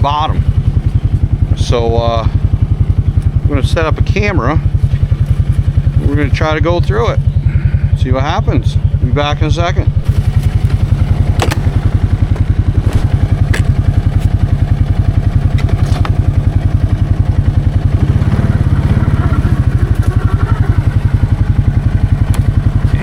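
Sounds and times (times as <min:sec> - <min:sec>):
atv engine idling: 0:00.0 - 0:23.0.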